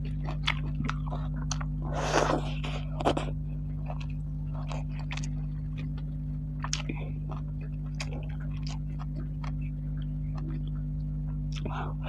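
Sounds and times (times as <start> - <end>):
wet chewing mouth clicks: 0.0 - 11.8
low hum: 0.0 - 12.0.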